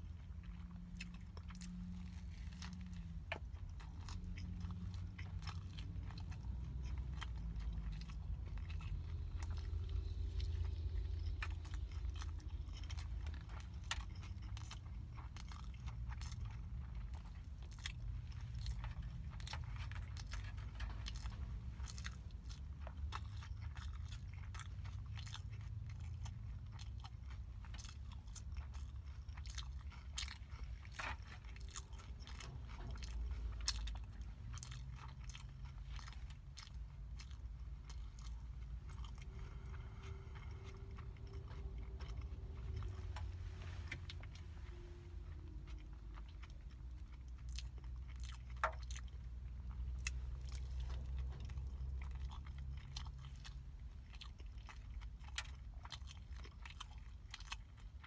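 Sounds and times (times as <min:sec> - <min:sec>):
low rumble: 0:00.0 - 0:57.5
person chewing food: 0:00.0 - 0:58.0.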